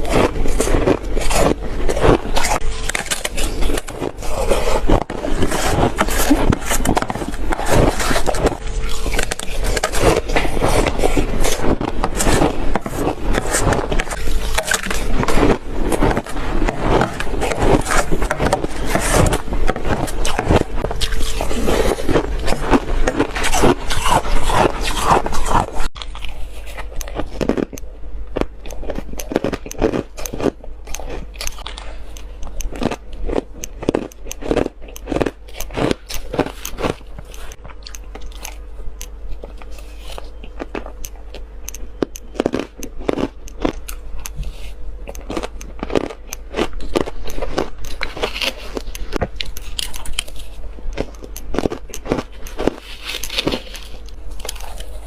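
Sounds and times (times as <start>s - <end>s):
chewing shaved ice crunches: 0.0s - 55.0s.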